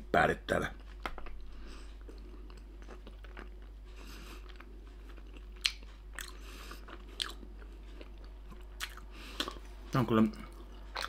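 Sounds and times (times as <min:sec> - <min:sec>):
person chewing: 0:00.8 - 0:09.7, 0:10.5 - 0:11.0.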